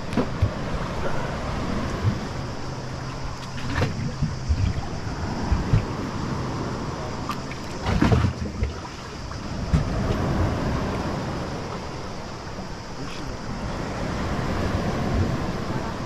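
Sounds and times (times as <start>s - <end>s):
water sloshing against boat hull: 0.0s - 16.0s
wind buffeting microphone: 0.0s - 16.0s.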